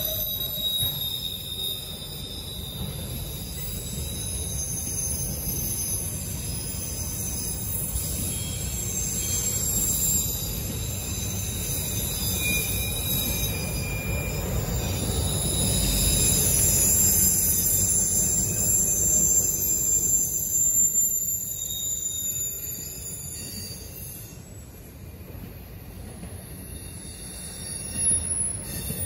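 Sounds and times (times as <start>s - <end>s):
high wheel squeal: 0.0s - 25.1s, 25.8s - 29.0s
train wheels rumbling on rails: 0.0s - 29.0s.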